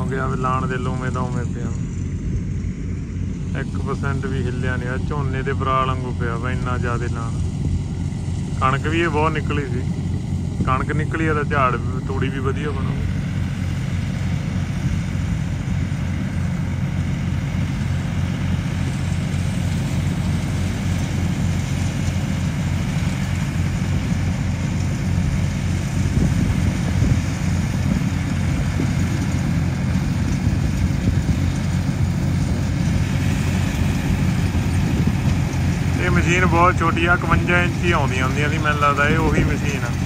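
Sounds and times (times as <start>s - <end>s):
diesel tractor engine: 0.0s - 40.0s.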